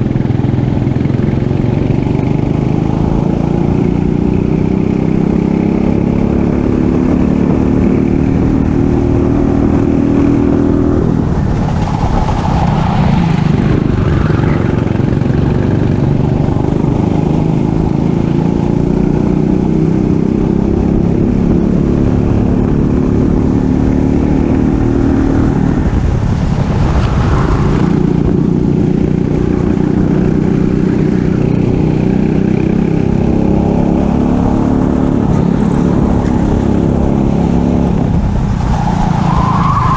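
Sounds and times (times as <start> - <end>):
racing kart engine at full throttle: 0.0 - 39.9.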